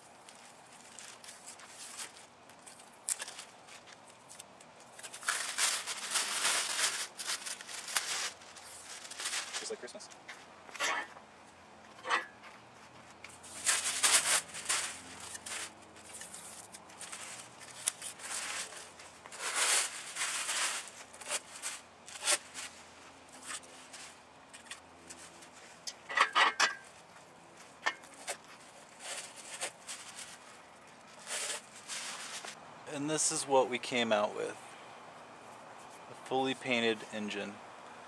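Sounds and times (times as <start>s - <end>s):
tape and sheeting rustling: 0.0s - 11.0s, 12.0s - 32.6s.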